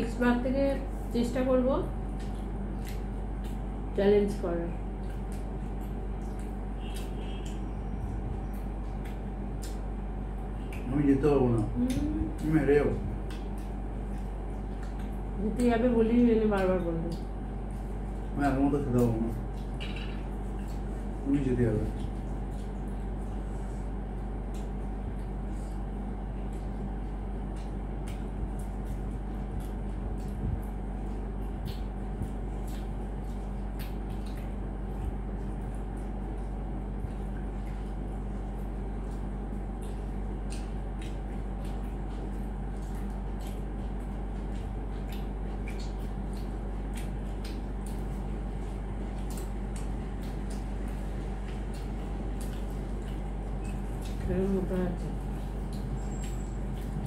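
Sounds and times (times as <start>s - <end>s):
steady low hum: 0.0s - 57.0s
crisp shells cracking and chewing: 1.9s - 4.0s, 4.8s - 15.7s, 16.5s - 57.0s.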